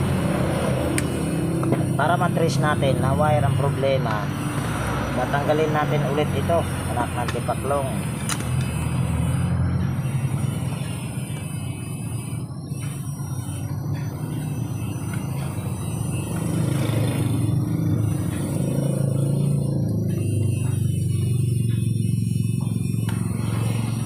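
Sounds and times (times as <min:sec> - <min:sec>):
passing traffic engine rumble: 0:00.0 - 0:24.0.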